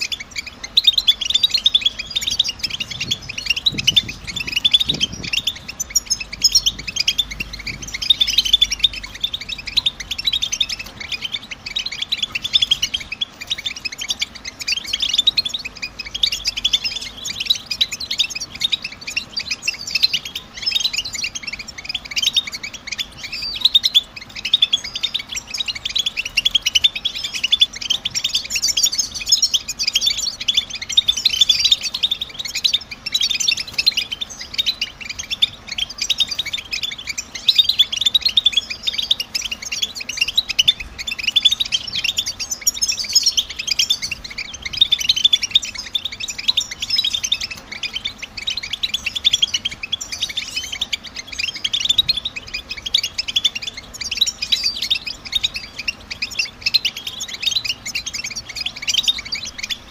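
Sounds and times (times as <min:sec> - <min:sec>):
goldfinch twittering: 0:00.0 - 0:59.9.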